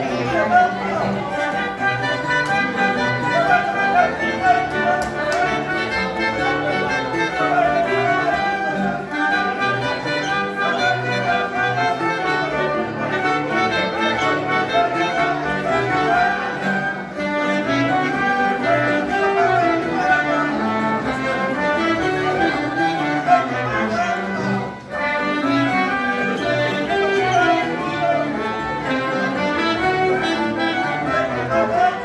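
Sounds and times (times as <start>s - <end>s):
folk dance music from a band: 0.0s - 32.0s.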